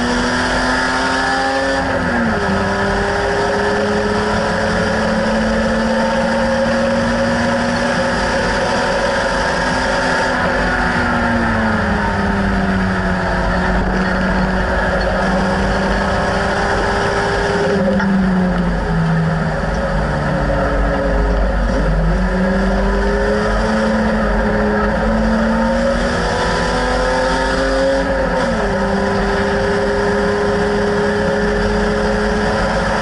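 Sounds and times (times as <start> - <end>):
race car engine running: 0.0 - 33.0
road and wind noise: 0.0 - 33.0.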